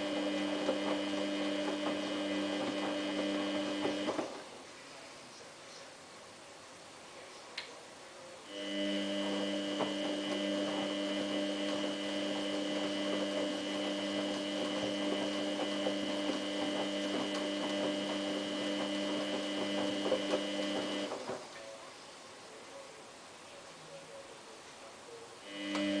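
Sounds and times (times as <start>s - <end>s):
washing machine humming: 0.0s - 7.2s, 7.8s - 26.0s.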